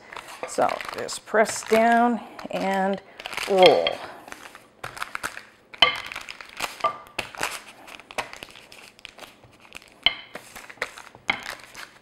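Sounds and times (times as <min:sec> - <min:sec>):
parchment paper crinkling: 0:00.0 - 0:12.0.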